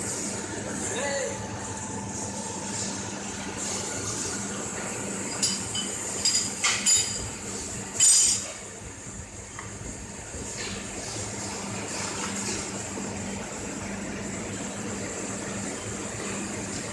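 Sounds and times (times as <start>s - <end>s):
steady machine hum: 0.0s - 16.9s.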